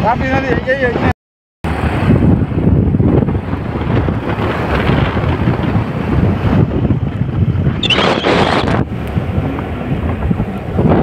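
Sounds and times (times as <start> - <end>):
wind buffeting microphone: 1.7 - 11.0.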